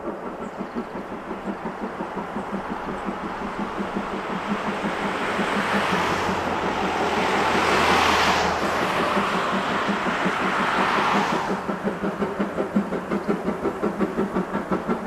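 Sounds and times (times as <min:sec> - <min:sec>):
rushing hiss of steam: 0:00.0 - 0:15.0
steam locomotive exhaust beating: 0:00.0 - 0:15.0.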